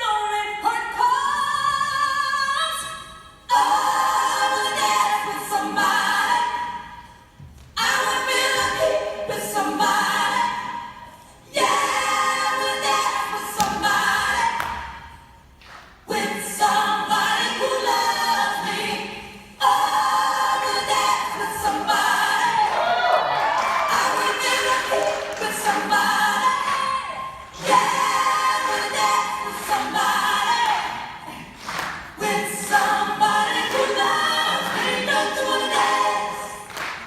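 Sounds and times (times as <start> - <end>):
voices singing without instruments: 0.0 - 37.0.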